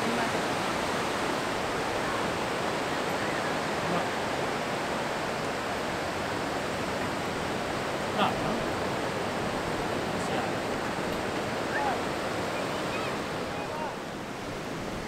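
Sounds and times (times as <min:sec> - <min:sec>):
ocean surf breaking on beach: 0:00.0 - 0:15.0.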